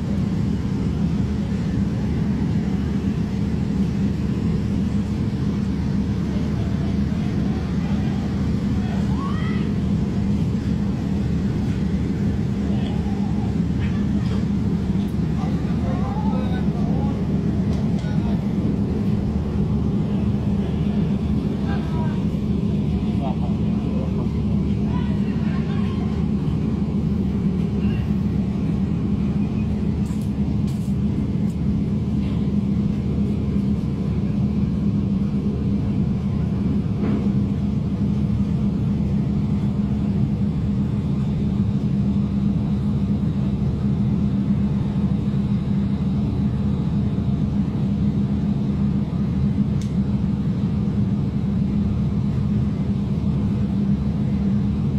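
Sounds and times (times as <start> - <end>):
low mechanical drone: 0.0 - 54.9.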